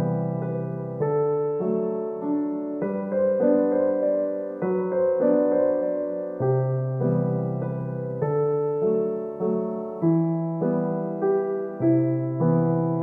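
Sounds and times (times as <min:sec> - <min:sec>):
gentle solo piano music: 0:00.0 - 0:13.0.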